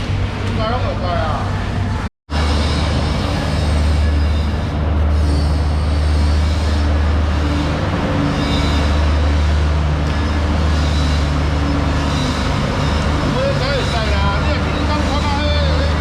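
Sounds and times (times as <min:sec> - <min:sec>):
noisy background: 0:00.0 - 0:16.0.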